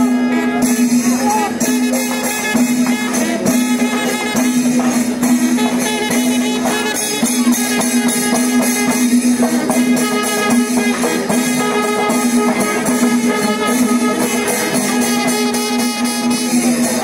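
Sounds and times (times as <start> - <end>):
hand cymbals clashing: 0.0 - 17.0
fast dense drumming: 0.6 - 17.0.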